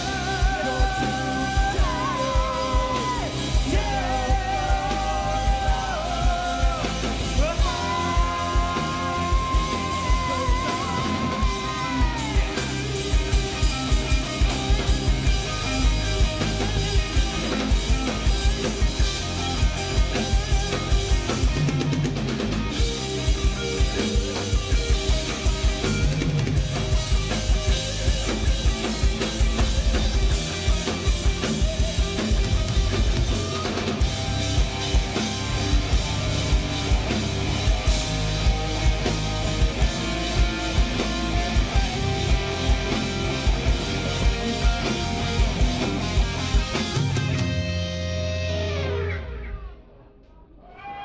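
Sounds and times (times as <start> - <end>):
drum kit beat: 0.0 - 48.3
bass guitar: 0.0 - 50.1
electric guitars: 0.0 - 50.4.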